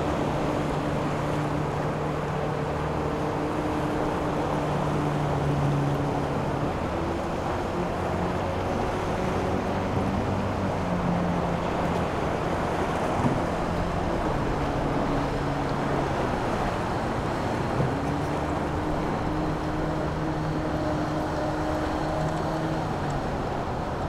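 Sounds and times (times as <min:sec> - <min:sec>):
boat engines humming: 0:00.0 - 0:24.0
wind and water rushing: 0:00.0 - 0:24.0.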